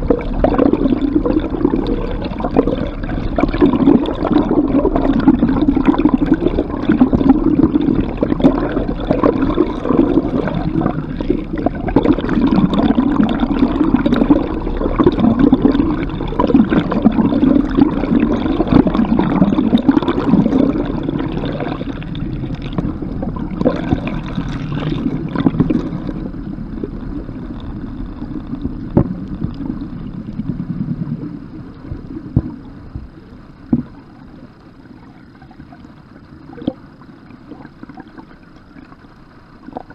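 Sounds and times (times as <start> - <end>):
water rushing along hull: 0.0 - 39.9.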